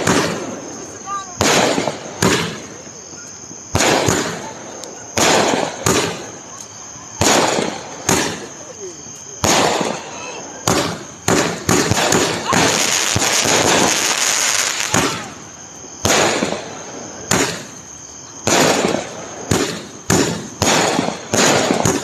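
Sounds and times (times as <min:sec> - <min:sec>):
fireworks crackling bursts: 0:00.0 - 0:22.0
fireworks sharp bangs: 0:00.0 - 0:22.0.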